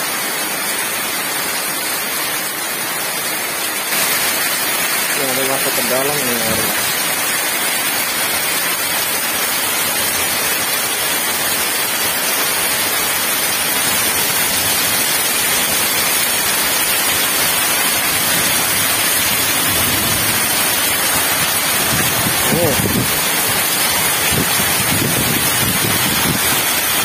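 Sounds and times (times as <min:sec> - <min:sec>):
heavy rain on concrete: 0:00.0 - 0:27.0.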